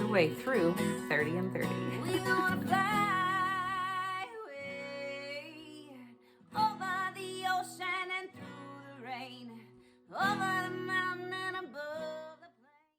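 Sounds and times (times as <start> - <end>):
acoustic guitar: 0.0 - 12.8
woman singing folk melody: 0.0 - 12.9.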